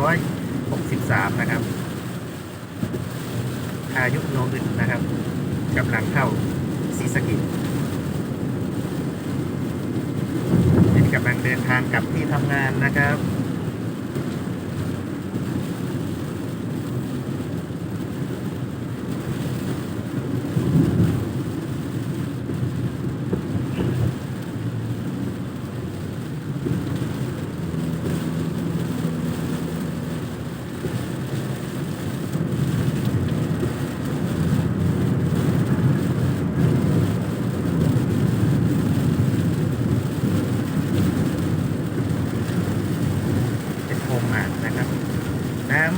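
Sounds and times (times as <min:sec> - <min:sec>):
car engine and wet tyres: 0:00.0 - 0:45.9
heavy rain falling: 0:00.0 - 0:45.9.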